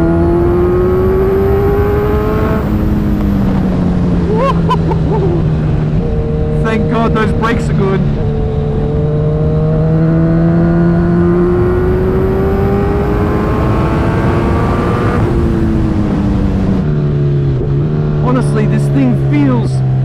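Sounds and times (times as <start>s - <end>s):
wind noise: 0.0s - 18.3s
motorcycle engine accelerating: 0.0s - 20.0s.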